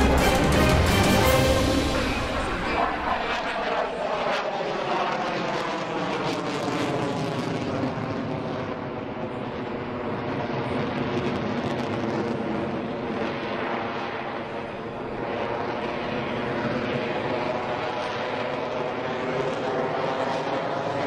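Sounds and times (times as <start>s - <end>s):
jet flying overhead: 0.0s - 21.0s.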